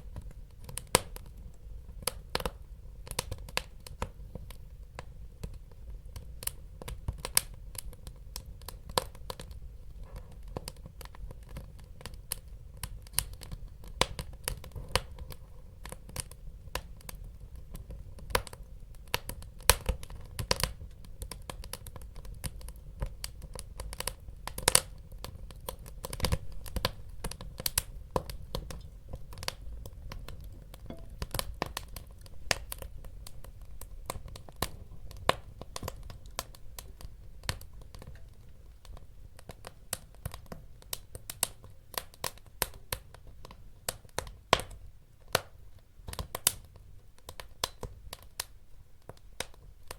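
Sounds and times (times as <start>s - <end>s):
low rumble of flame: 0.0s - 49.2s
wood fire crackling and popping: 0.0s - 49.9s.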